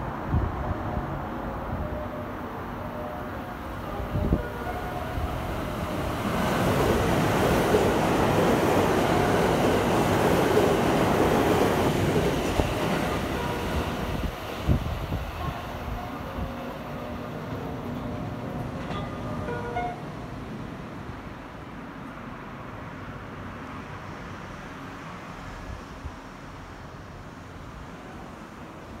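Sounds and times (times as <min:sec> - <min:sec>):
electric train passing at speed: 0:00.0 - 0:29.0.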